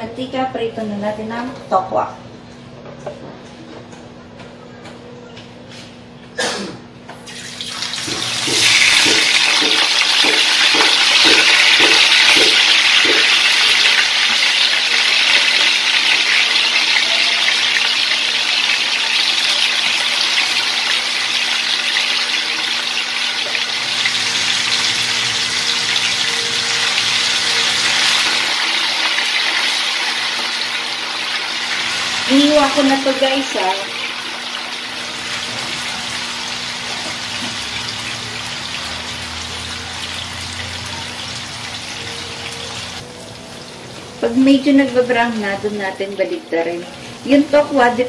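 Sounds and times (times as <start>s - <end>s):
oil sizzling: 7.2s - 48.0s.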